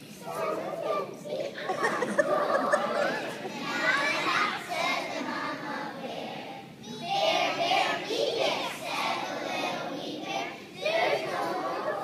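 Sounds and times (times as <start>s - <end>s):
young children singing: 0.0s - 12.0s.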